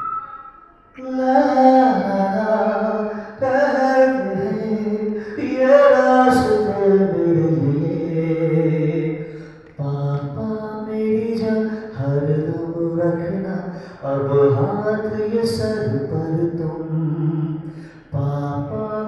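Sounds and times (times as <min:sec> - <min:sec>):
slow chant-like singing: 0:00.0 - 0:19.0.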